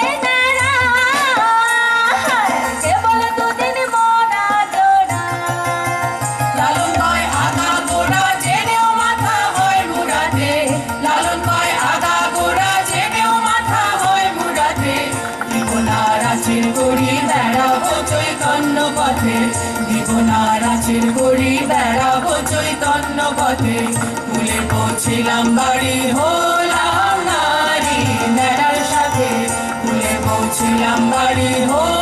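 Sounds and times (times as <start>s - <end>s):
hand drum beat: 4.4s - 32.0s.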